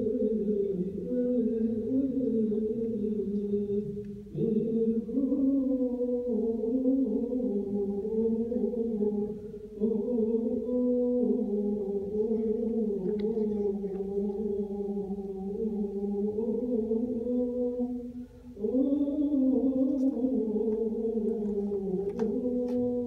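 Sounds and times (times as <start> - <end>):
chant-like singing: 0.0 - 23.0.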